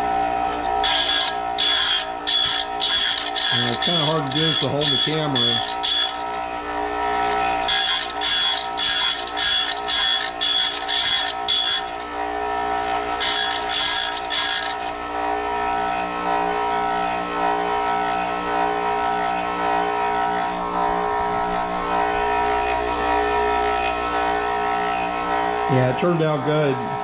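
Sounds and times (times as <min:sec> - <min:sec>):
bench grinder running: 0:00.0 - 0:27.0
electrode scraping on grinding wheel: 0:00.0 - 0:27.0.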